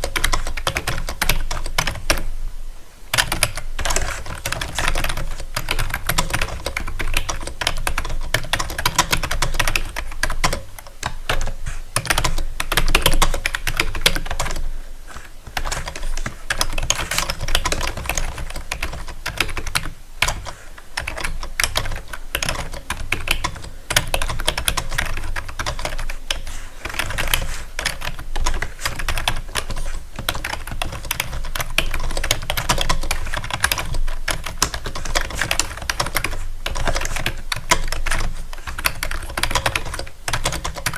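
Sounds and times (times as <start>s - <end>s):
keyboard typing: 0.0s - 2.3s, 3.1s - 40.9s.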